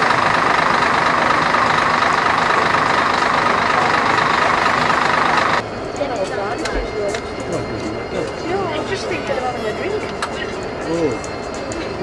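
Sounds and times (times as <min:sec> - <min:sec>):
vehicle running: 0:00.0 - 0:12.0.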